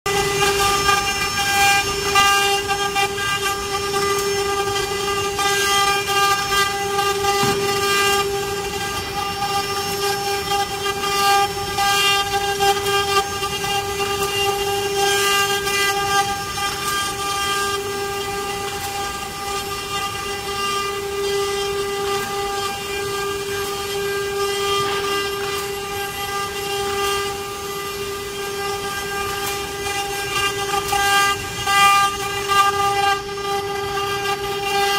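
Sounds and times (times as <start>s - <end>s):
router spindle motor whine: 0.1s - 34.9s
scratchy wood cutting noise: 0.1s - 34.9s.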